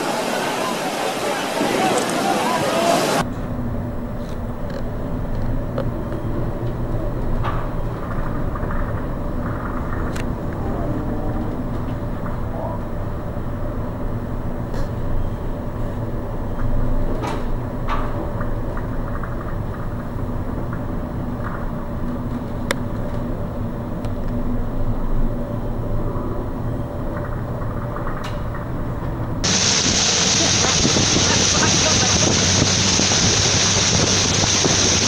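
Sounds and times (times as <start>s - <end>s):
ship engine hum and rumble: 0.0s - 35.0s.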